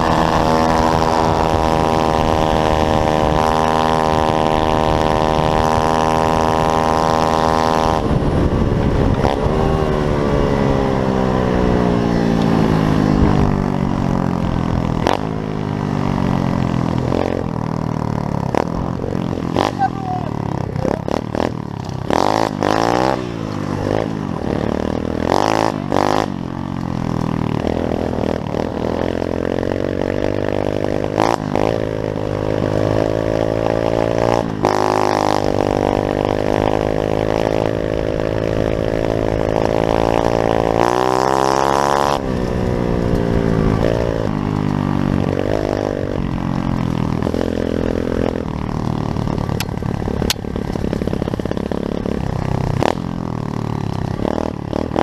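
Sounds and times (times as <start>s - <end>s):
small motorbike engine revving: 0.0s - 55.0s.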